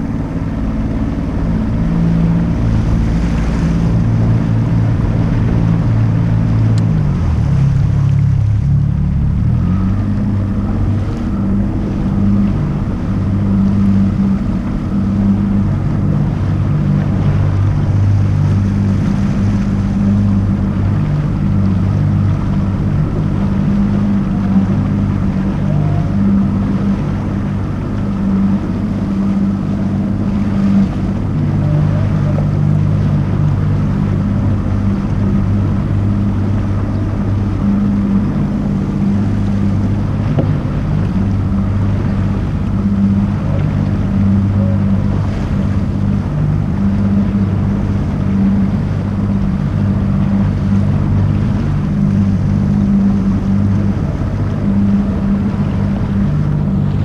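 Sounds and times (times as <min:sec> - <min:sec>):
outboard motor running: 0:00.0 - 0:57.0
water noise: 0:00.0 - 0:57.0
wind noise: 0:00.0 - 0:57.0.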